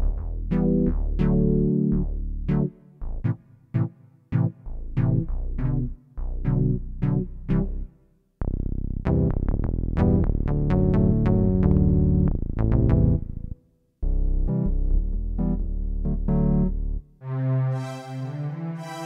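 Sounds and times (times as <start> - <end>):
keyboard bass notes: 0.0 - 19.0
electronic keyboard melody: 0.4 - 7.9, 9.1 - 19.0.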